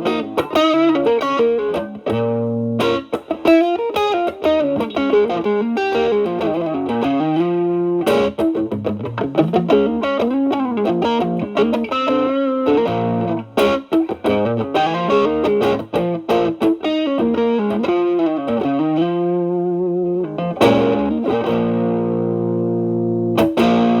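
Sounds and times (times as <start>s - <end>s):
overdriven electric guitar lead: 0.0s - 24.0s.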